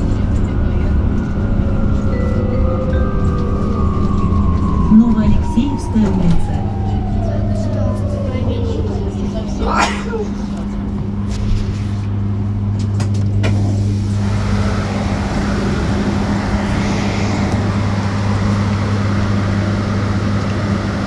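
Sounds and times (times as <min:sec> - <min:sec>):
electric bus hum: 0:00.0 - 0:21.0
road and tyre noise: 0:00.0 - 0:21.0.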